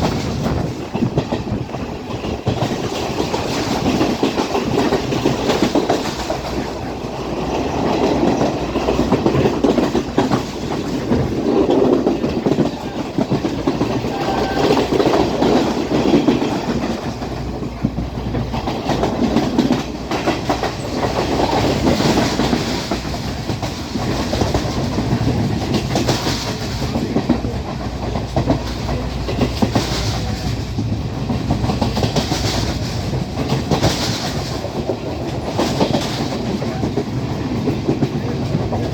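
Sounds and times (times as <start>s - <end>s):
train rumbling along track: 0.0s - 38.9s
wheels clattering on rails: 0.0s - 38.9s.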